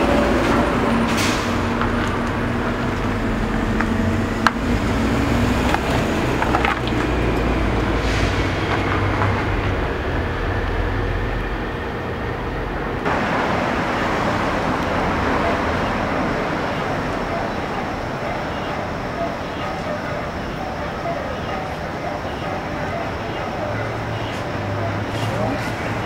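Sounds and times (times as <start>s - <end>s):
low rumble of city traffic: 0.0s - 26.0s.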